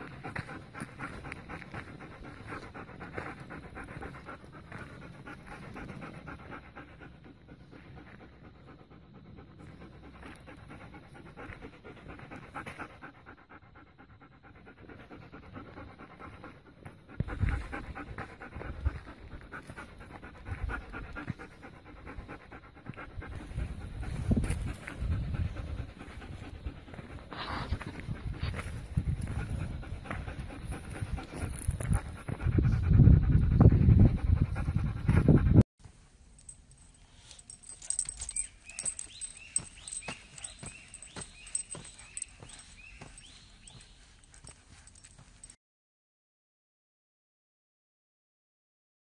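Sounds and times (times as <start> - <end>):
dog panting: 0.0 - 35.6, 36.4 - 45.6.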